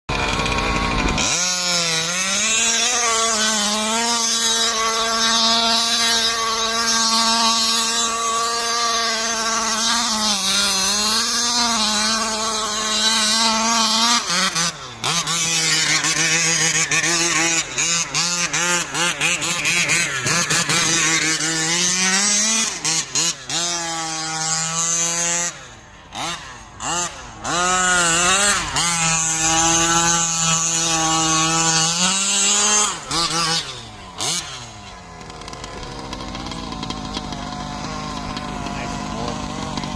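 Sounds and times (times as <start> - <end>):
two-stroke engine revving: 0.1 - 39.9.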